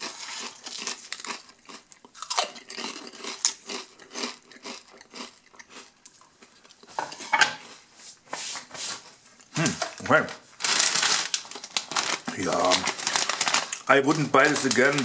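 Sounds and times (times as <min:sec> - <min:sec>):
chewing potato crisps: 0:00.0 - 0:07.0, 0:09.4 - 0:15.0.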